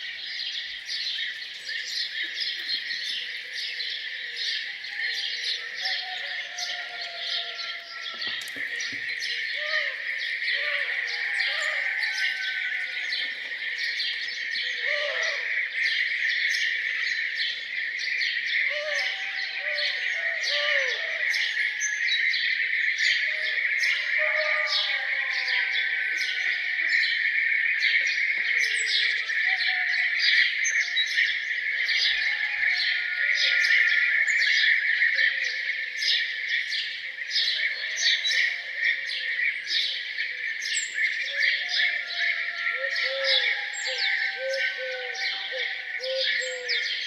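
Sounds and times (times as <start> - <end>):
songbirds chirping and twittering: 0.0 - 47.0.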